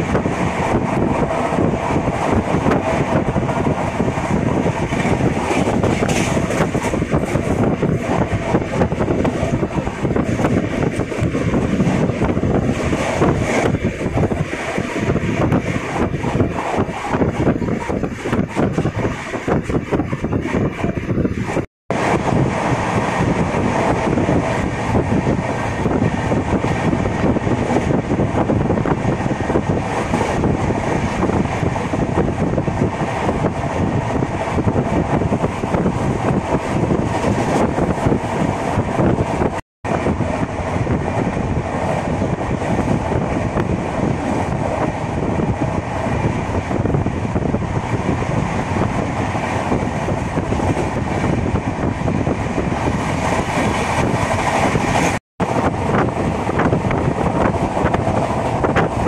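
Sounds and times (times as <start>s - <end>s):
rush of train wheels and wind: 0.0s - 59.0s.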